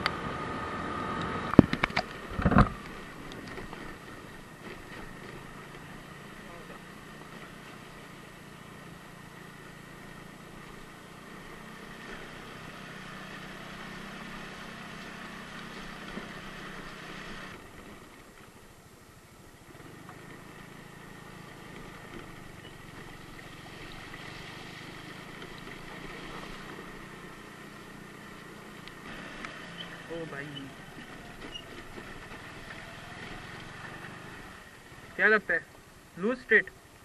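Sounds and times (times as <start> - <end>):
scooter engine running: 0.0 - 18.8, 19.4 - 37.0
road and wind noise: 0.0 - 37.0.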